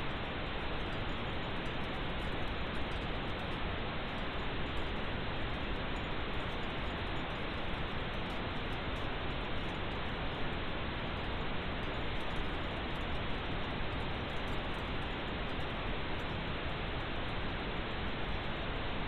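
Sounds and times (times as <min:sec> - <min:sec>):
steady pink noise hiss: 0:00.0 - 0:19.0.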